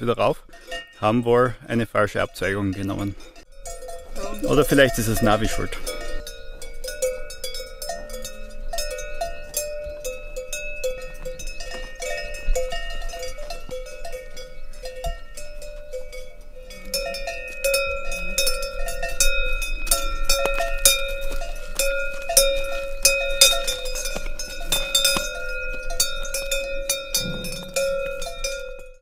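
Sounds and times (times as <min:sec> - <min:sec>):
cowbells clanking: 0:00.0 - 0:29.0.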